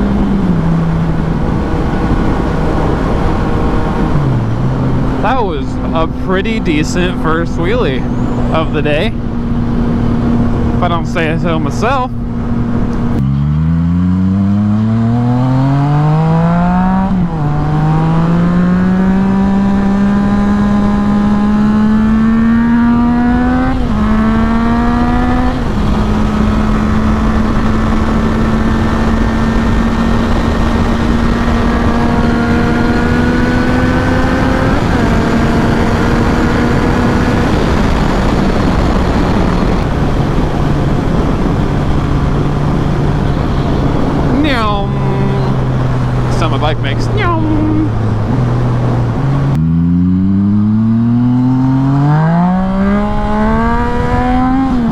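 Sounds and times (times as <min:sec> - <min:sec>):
wind noise on microphone: 0:00.0 - 0:07.2, 0:14.2 - 0:54.9
motorcycle engine accelerating: 0:00.0 - 0:54.9.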